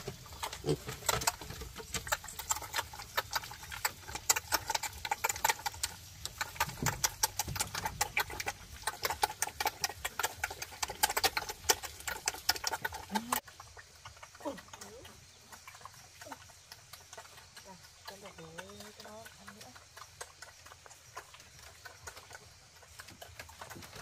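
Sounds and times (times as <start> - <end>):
pigs chomping: 0.0 - 24.0.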